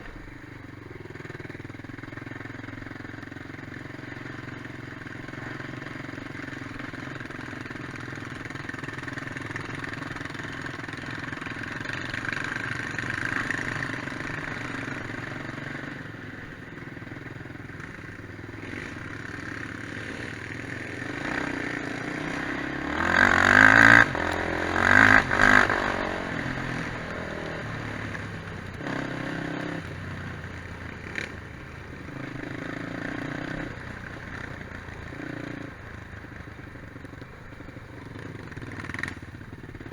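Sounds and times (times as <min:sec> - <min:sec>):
quad bike engine revving: 0:00.0 - 0:39.9
quad bike engines running: 0:00.0 - 0:39.9.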